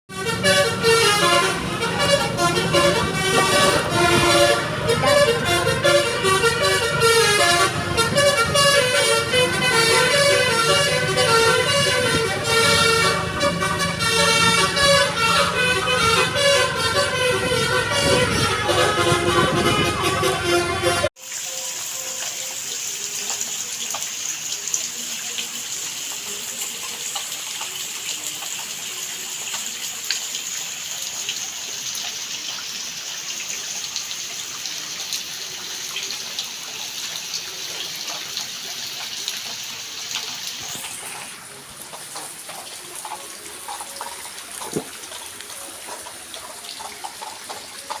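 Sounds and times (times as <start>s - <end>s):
running water rushing: 0.1s - 48.0s.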